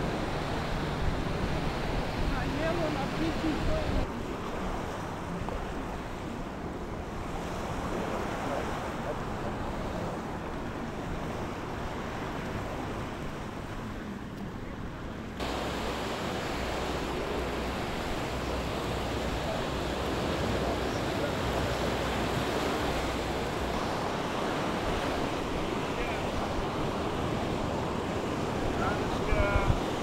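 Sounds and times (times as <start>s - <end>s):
waves washing on beach: 0.0s - 30.0s
wind rumble on microphone: 0.0s - 30.0s.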